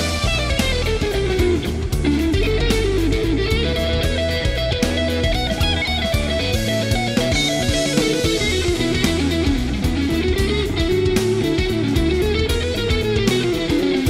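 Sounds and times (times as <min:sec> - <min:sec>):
bass guitar: 0:00.0 - 0:14.0
drums: 0:00.0 - 0:14.0
electric guitar lead sliding: 0:00.0 - 0:14.0.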